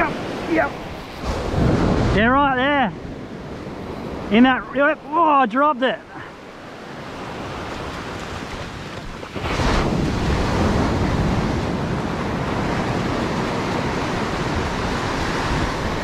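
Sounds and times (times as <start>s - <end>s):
wind buffeting microphone: 0.0s - 4.7s, 6.5s - 16.0s
surf breaking on sand: 0.0s - 4.9s, 6.7s - 16.0s.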